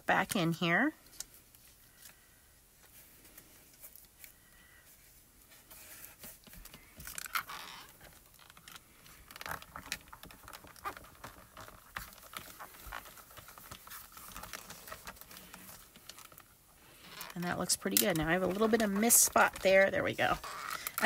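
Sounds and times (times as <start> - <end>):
paper rustling and scraping: 1.3 - 21.0.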